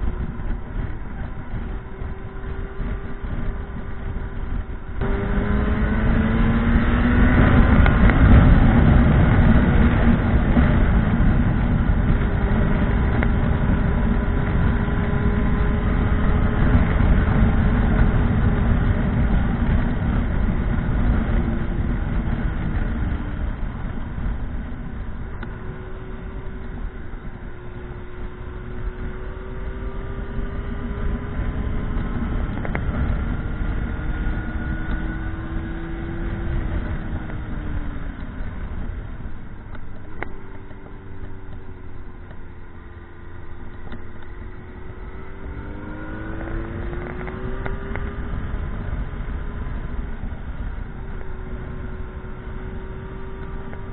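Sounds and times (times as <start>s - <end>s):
motorcycle engine: 0.0s - 53.9s
wind noise: 0.0s - 53.9s.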